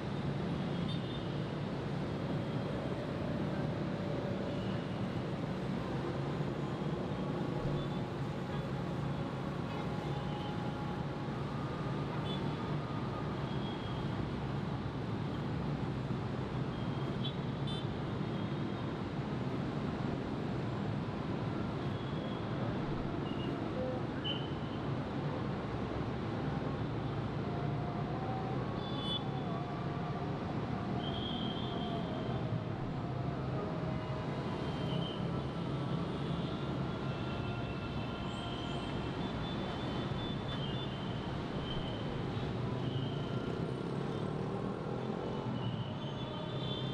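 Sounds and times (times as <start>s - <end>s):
dense road traffic rumble: 0.0s - 46.9s.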